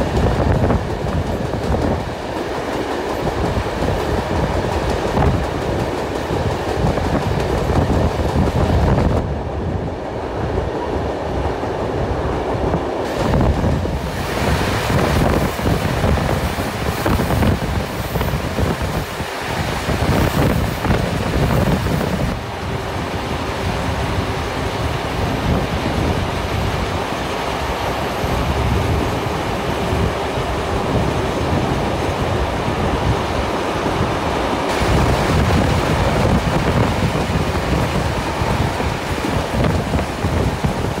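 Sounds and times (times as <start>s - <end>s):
train wheels clattering on rails: 0.0s - 9.3s, 12.5s - 41.0s
rushing air: 0.0s - 41.0s.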